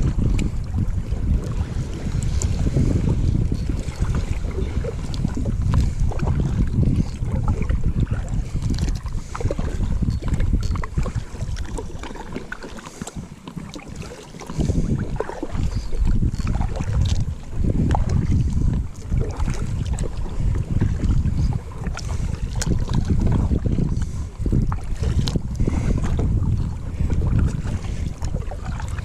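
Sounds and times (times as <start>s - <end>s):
water sounds: 0.0s - 29.0s
wind buffeting microphone: 0.0s - 29.0s.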